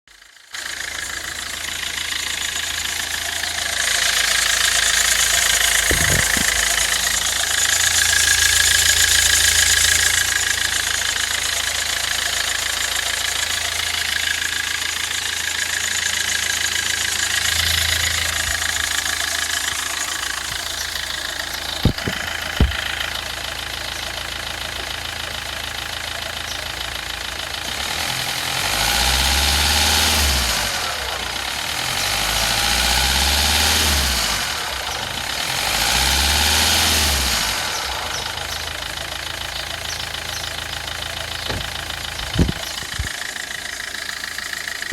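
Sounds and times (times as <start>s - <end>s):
diesel engine idling and revving: 0.0s - 44.9s.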